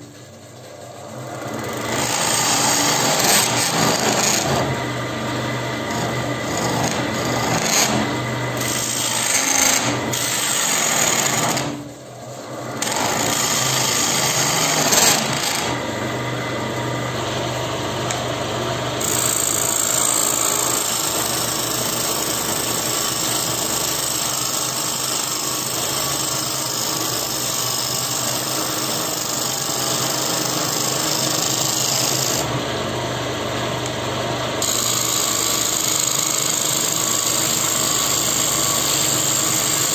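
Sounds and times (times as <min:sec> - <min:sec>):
lathe motor hum: 0:00.0 - 0:39.9
chisel cutting wood on a lathe: 0:01.1 - 0:11.9, 0:12.5 - 0:39.9.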